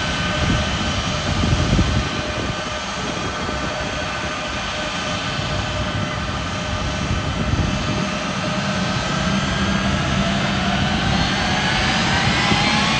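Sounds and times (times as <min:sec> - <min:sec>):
jet engines roaring and whining: 0:00.0 - 0:12.9.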